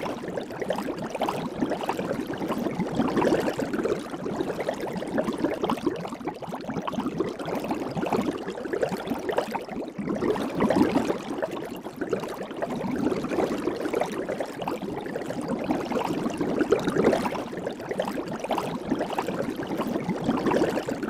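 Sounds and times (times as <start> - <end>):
soap bubbles fizzing and popping: 0.0 - 21.0.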